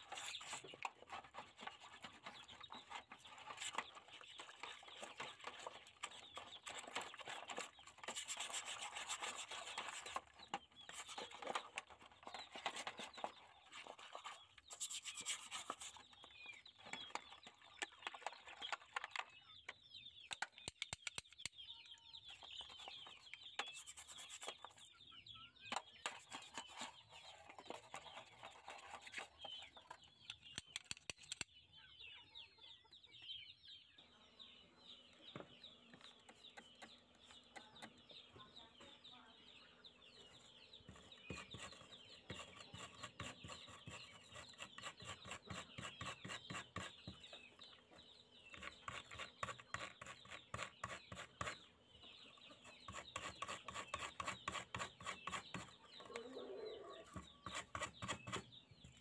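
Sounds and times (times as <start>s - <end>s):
chickens clucking: 0.0s - 20.6s, 21.6s - 30.5s, 31.4s - 59.0s.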